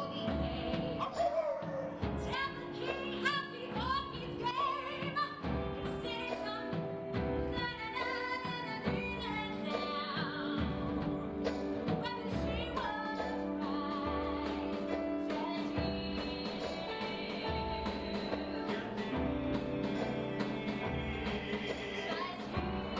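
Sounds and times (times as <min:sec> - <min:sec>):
person singing: 0:00.0 - 0:06.8, 0:07.6 - 0:22.9
band playing a steady beat: 0:00.0 - 0:22.9.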